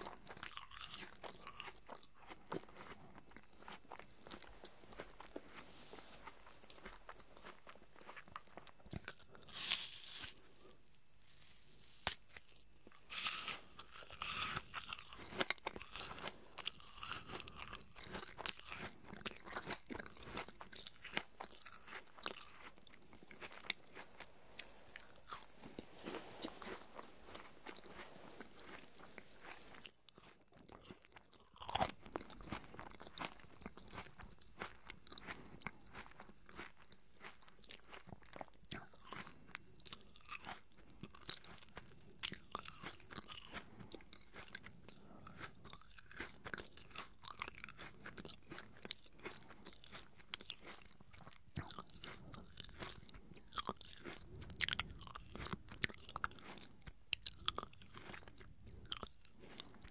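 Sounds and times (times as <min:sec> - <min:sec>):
crunchy apple chewing: 0:00.0 - 0:59.9.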